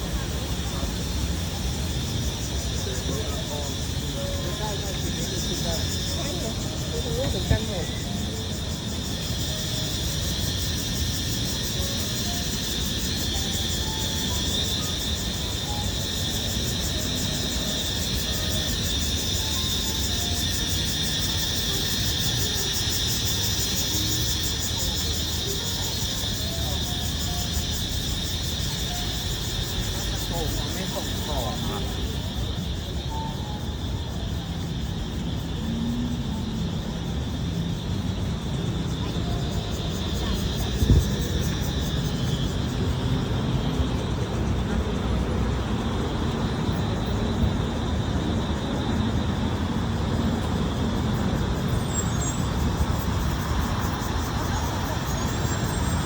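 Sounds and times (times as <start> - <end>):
cicadas chorus: 0.0 - 56.0.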